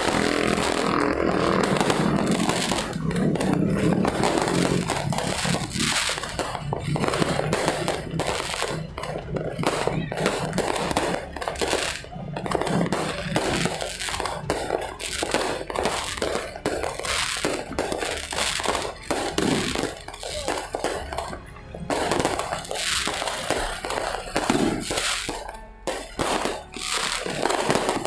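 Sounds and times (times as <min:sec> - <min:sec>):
fireworks and firecrackers bursting: 0:00.0 - 0:28.0.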